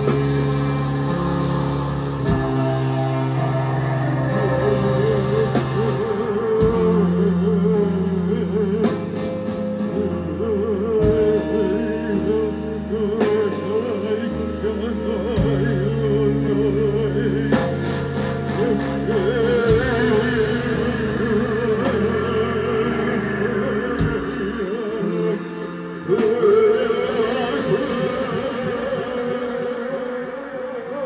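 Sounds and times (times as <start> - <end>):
held bass notes: 0.0 - 31.0
live rock band: 0.0 - 31.0.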